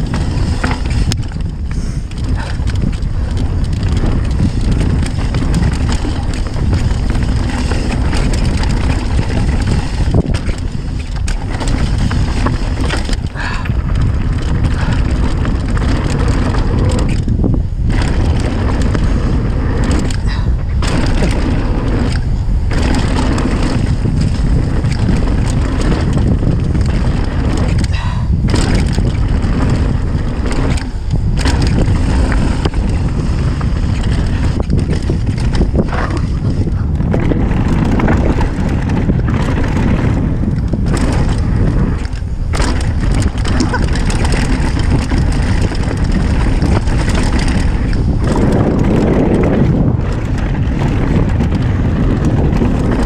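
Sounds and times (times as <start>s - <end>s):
bike tyres rumbling over dirt: 0.0s - 53.0s
wind rushing over microphone: 0.0s - 53.0s.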